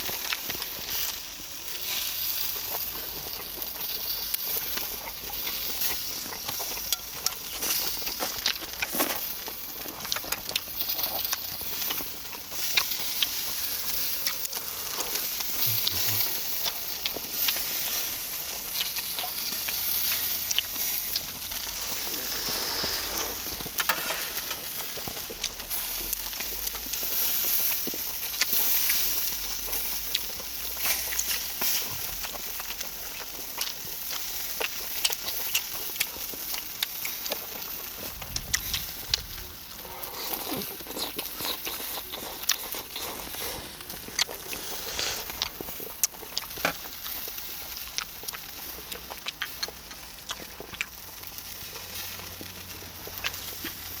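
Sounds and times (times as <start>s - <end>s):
meat sizzling on a grill: 0.0s - 54.0s.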